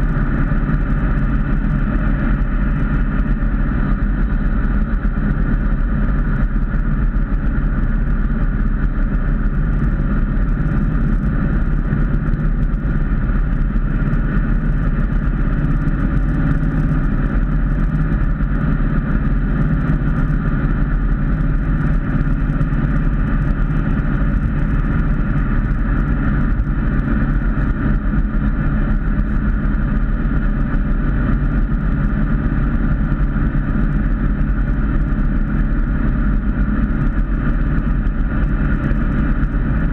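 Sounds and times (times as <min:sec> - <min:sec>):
car engine and exhaust drone: 0:00.0 - 0:39.9.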